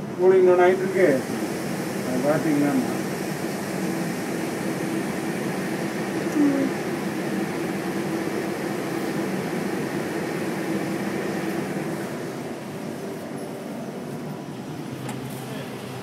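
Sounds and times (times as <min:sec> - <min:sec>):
equipment hum: 0:00.0 - 0:16.0.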